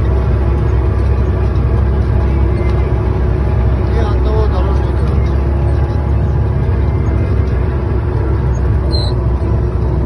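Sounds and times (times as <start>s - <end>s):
road noise: 0.0s - 10.0s
truck diesel engine running: 0.0s - 10.0s.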